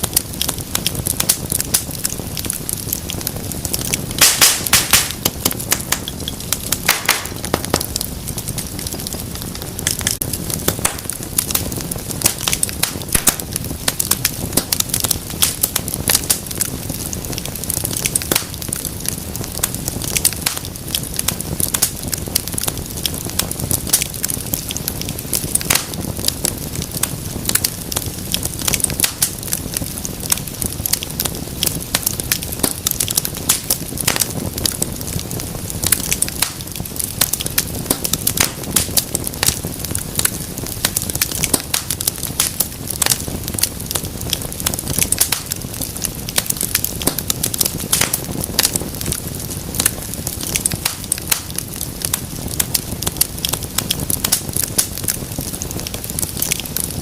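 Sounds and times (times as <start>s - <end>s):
wood fire rumbling and crackling: 0.0s - 57.0s.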